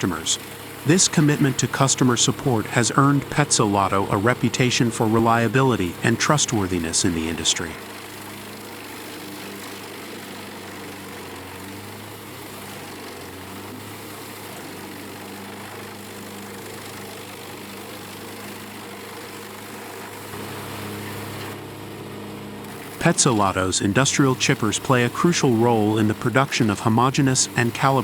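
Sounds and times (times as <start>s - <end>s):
wood chipper engine humming: 0.0s - 28.0s.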